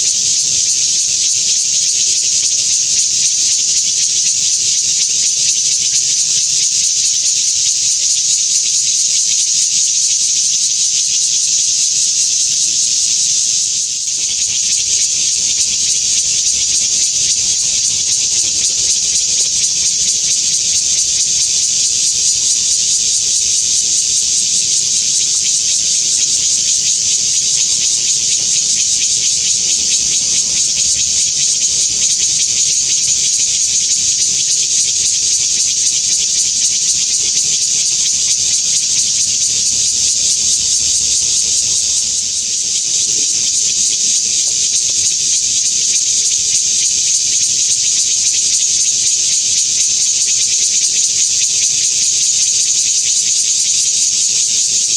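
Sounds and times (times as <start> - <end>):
cicada buzzing drone: 0.0 - 54.9.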